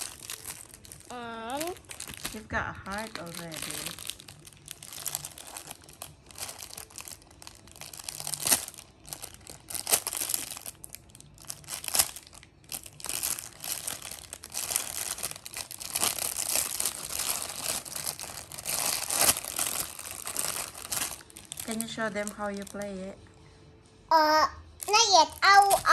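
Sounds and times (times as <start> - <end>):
plastic packaging crinkling: 0.0 - 23.0, 24.8 - 25.9.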